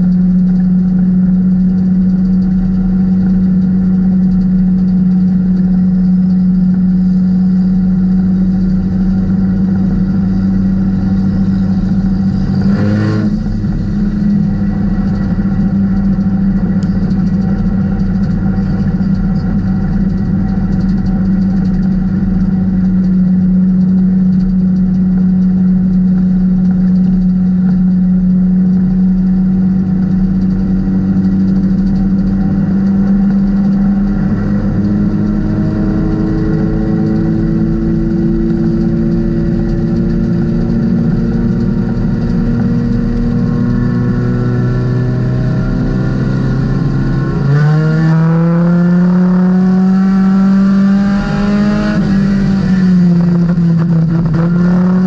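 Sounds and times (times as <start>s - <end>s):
race car engine droning: 0.0s - 55.0s.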